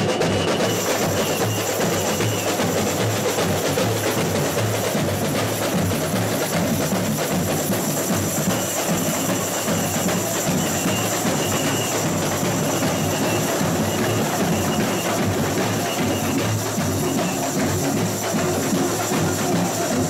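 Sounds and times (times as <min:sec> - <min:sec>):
bass drums: 0:00.0 - 0:20.0
metal shakers: 0:00.0 - 0:20.0
samba drumming: 0:00.0 - 0:20.0.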